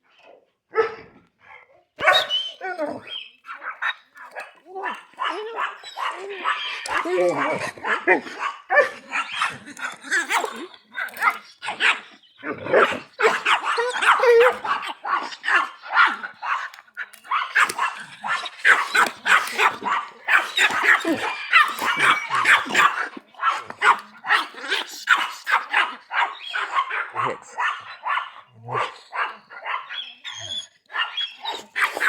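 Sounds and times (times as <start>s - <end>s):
dogs barking: 2.0s - 32.0s.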